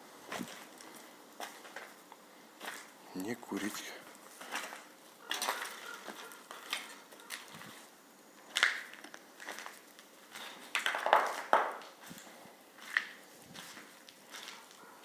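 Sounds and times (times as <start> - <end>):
footsteps crunching on debris: 0.3 - 15.0.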